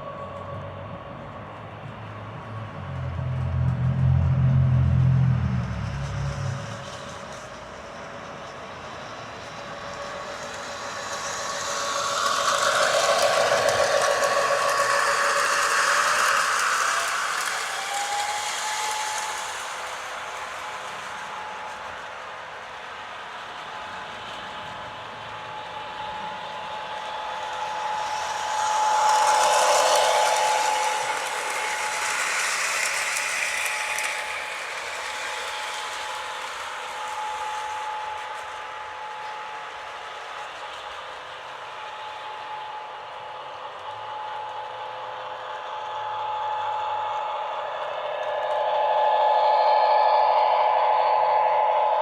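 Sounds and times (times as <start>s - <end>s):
model train humming: 0.0s - 52.0s.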